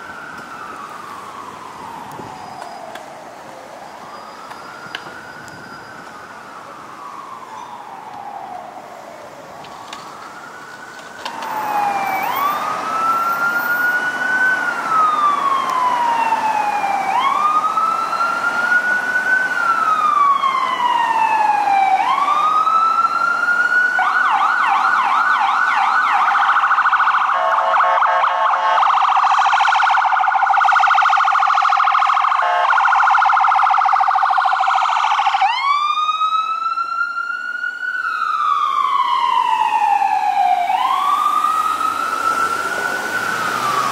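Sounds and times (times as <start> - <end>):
ambulance siren wailing and yelping: 0.0 - 43.9.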